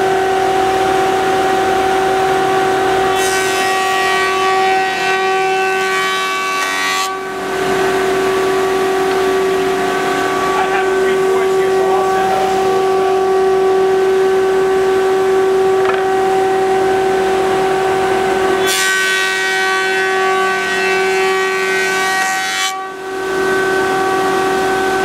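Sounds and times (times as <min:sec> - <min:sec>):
planer and dust collector whine: 0:00.0 - 0:25.0
planer cutting wood: 0:00.0 - 0:25.0.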